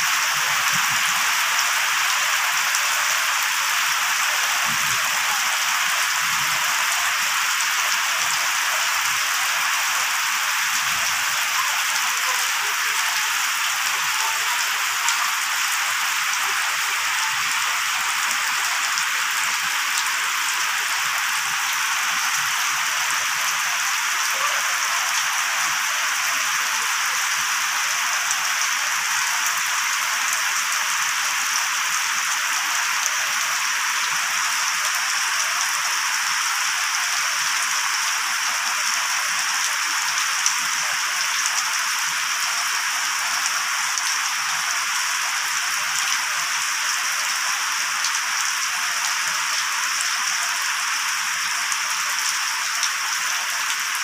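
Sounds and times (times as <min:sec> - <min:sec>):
steady rain on wet ground: 0:00.0 - 0:54.0.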